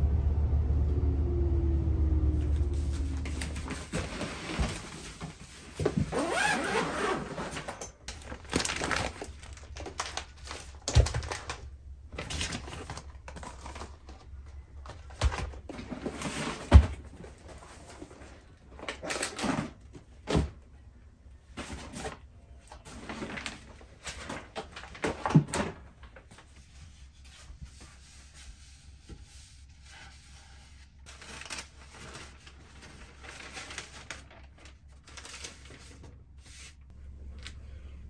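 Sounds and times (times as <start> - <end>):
kitchen paper rustling: 2.6 - 19.4, 21.6 - 36.9.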